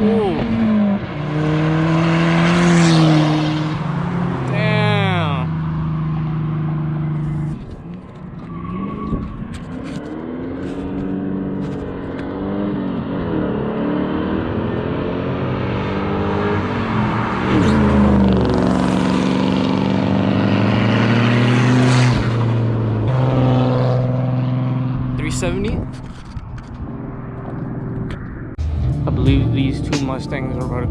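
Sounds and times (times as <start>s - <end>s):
cars accelerating past: 0.0s - 26.0s.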